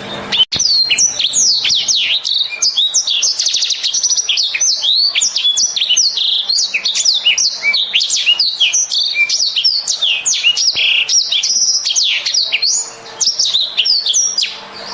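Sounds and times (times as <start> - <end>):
canary singing: 0.0 - 14.9.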